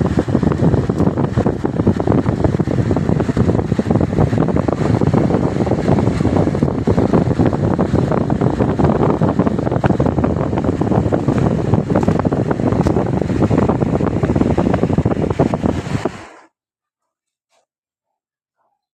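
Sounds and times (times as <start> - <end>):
wind buffeting microphone: 0.0 - 16.4.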